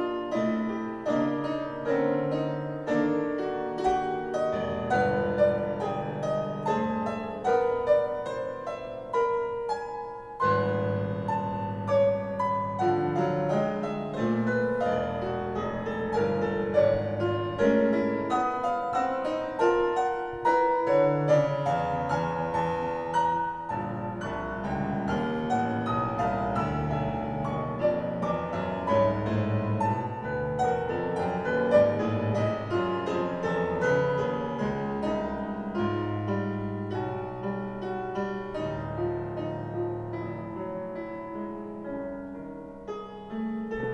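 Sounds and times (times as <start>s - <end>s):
piano music over sound system: 0.0s - 43.9s.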